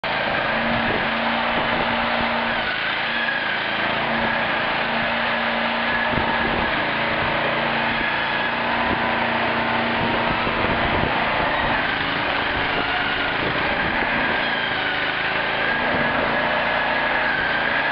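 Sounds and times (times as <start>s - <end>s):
demolition machinery engine running: 0.0s - 17.9s.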